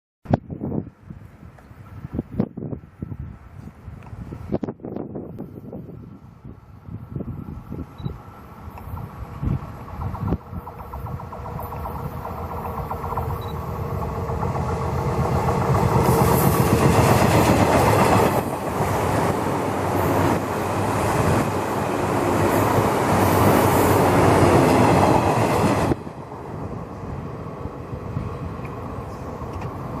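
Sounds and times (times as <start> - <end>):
electric train passing: 5.1 - 30.0.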